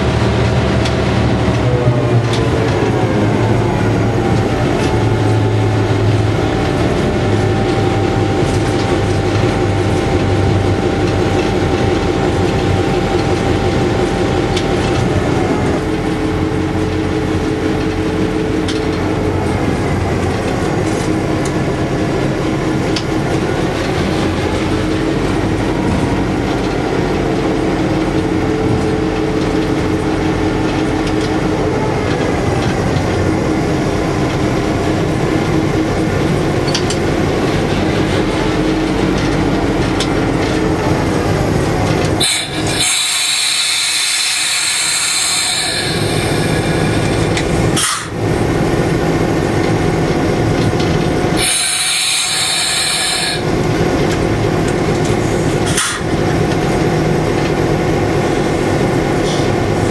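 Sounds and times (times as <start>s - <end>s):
locomotive diesel engine running: 0.0s - 59.9s
wheels on rails: 0.0s - 59.9s.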